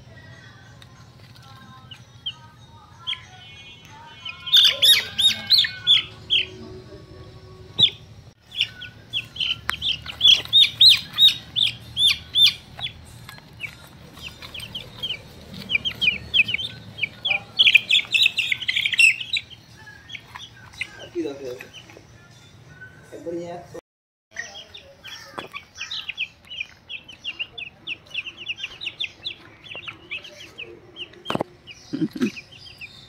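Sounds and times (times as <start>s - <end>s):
rapid high chirping calls: 1.8s - 6.7s, 7.8s - 21.9s, 24.3s - 33.0s.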